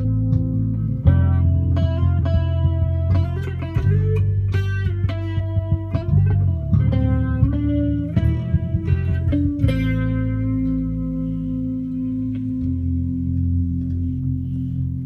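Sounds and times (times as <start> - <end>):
electric guitar plucked notes: 0.0 - 15.0.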